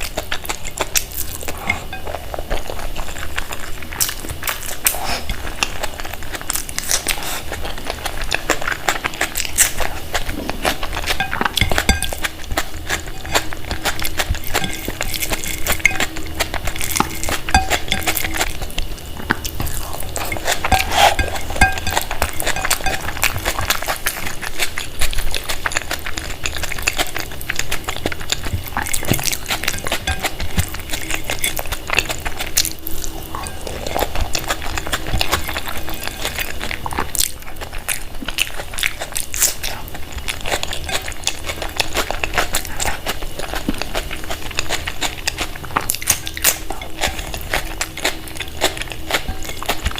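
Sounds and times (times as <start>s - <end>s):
dishes clinking and scraping: 0.0s - 6.4s, 7.0s - 49.9s.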